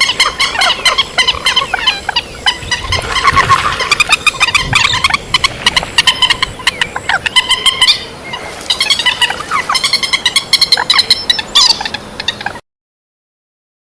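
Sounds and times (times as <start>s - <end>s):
bird chattering calls: 0.0s - 12.6s.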